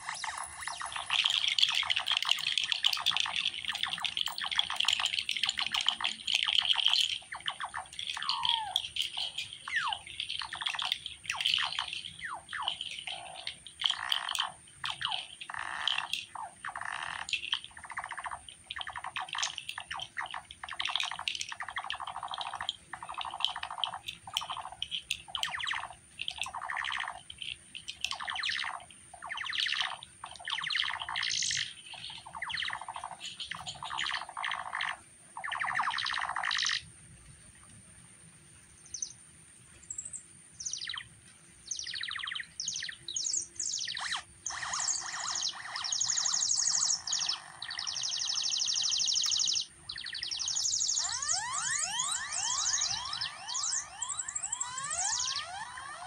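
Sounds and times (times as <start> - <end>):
squawking chirping noise strokes: 0.0 - 36.6, 43.4 - 56.0.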